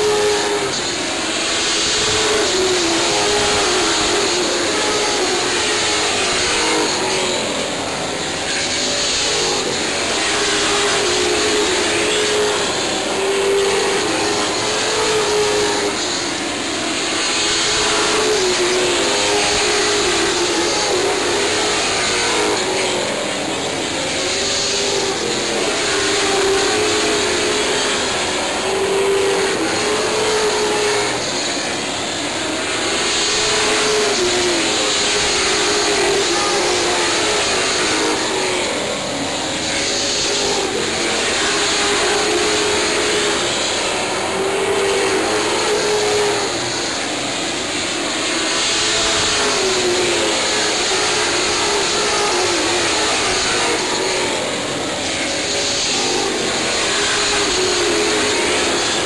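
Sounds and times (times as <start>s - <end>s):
racing car engines: 0.0s - 59.0s.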